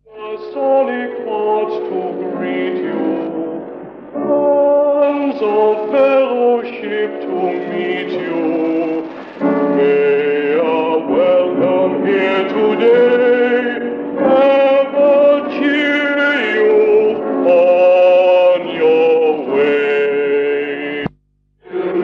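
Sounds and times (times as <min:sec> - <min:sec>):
man singing slow song: 0:00.0 - 0:22.0.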